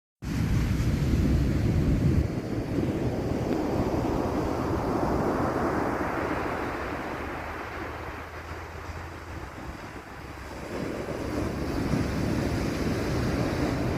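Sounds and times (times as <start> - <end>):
wave breaking on beach: 0.2 - 13.9
wind buffeting microphone: 0.2 - 13.9.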